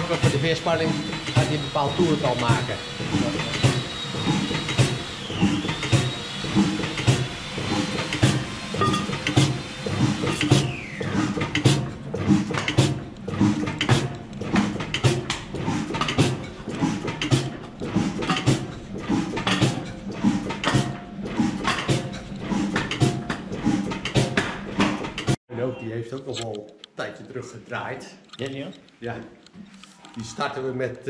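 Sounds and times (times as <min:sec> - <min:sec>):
old engine running slowly: 0:00.0 - 0:25.4
sharp metallic clicks: 0:00.0 - 0:25.4, 0:26.1 - 0:27.4, 0:28.2 - 0:30.4.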